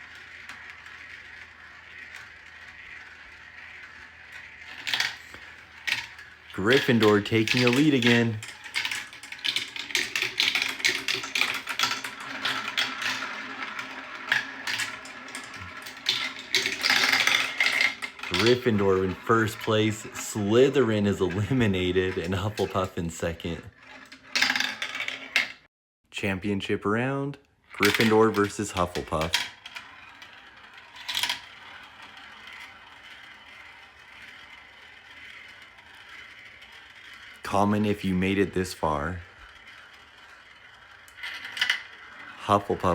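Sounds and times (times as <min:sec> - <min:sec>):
marbles rolling down a track: 0:00.0 - 0:25.7, 0:27.6 - 0:42.9.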